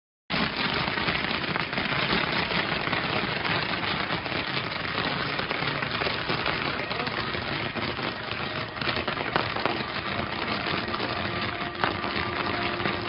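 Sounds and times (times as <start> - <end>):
fireworks crackling: 0.3 - 13.0.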